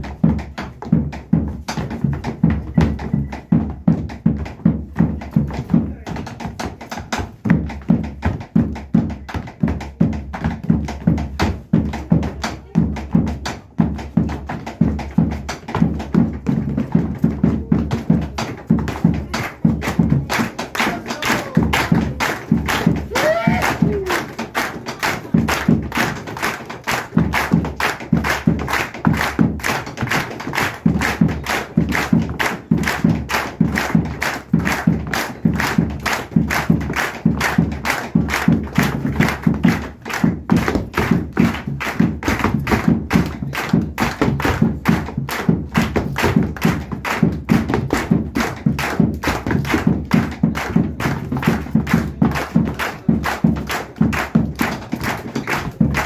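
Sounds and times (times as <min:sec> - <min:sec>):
bass drum beating: 0:00.0 - 0:24.4, 0:25.2 - 0:56.0.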